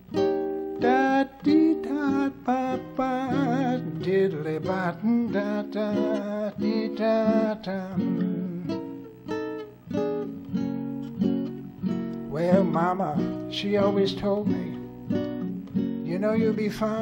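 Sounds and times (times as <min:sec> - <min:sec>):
acoustic guitar fingerpicking: 0:00.0 - 0:17.0.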